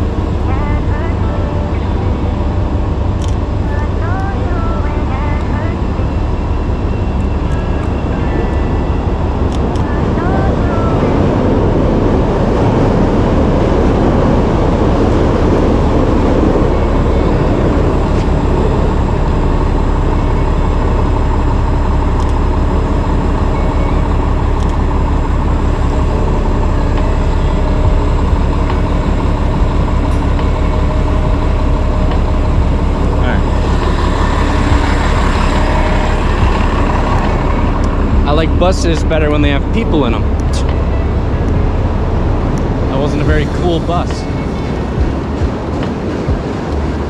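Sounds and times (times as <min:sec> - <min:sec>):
bus engine humming: 0:00.0 - 0:47.0
city street traffic: 0:00.0 - 0:47.0
vehicle passing: 0:00.0 - 0:47.0.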